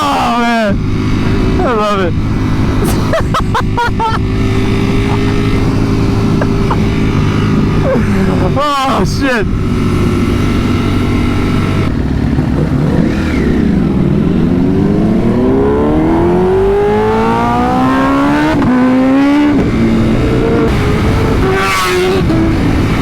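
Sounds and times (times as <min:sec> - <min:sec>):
motorcycle engine accelerating: 0:00.0 - 0:23.0
wind and road rush: 0:00.0 - 0:23.0.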